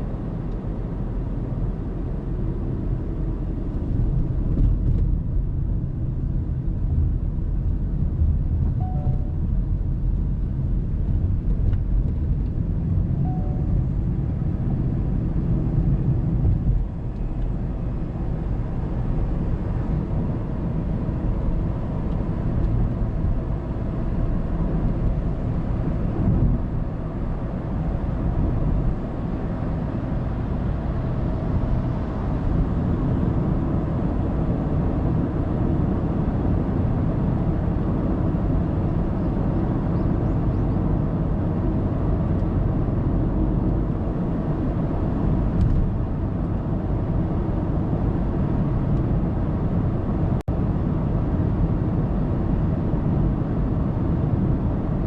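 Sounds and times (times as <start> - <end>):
car road noise inside cabin: 0.0 - 55.0.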